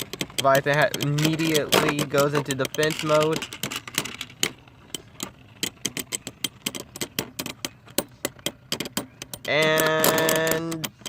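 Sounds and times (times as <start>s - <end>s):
spinning tops clacking: 0.0s - 11.0s.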